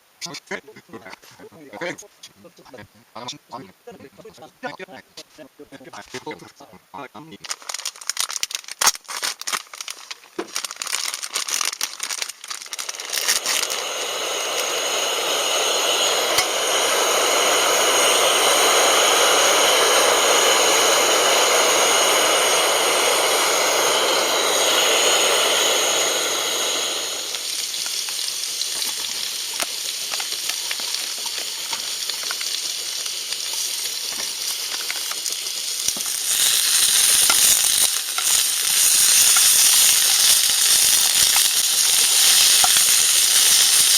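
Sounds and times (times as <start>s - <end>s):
food sizzling in a hot pan: 7.2s - 43.9s.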